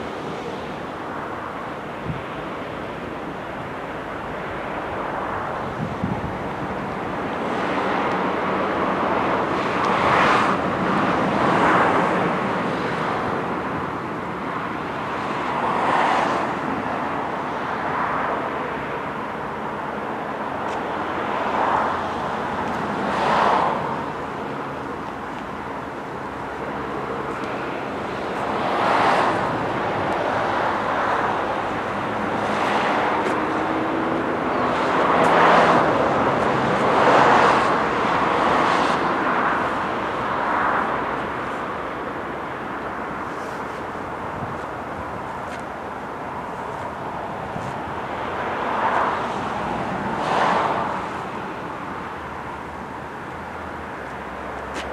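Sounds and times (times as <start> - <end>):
steady traffic hum: 0.0 - 54.9
cars driving past: 3.9 - 54.9.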